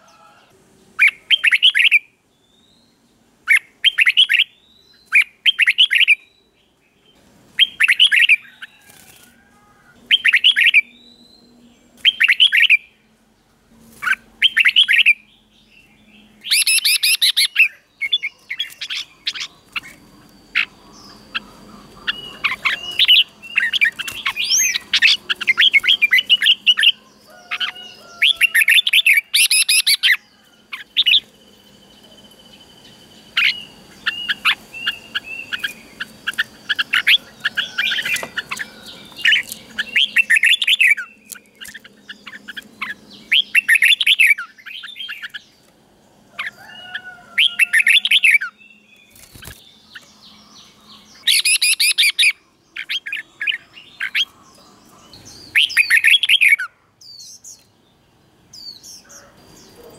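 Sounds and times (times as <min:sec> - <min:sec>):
birds chirping and whistling: 0:00.0 - 0:09.4, 0:10.0 - 0:13.1, 0:13.9 - 0:45.7, 0:46.3 - 0:57.7, 0:58.5 - 0:59.9.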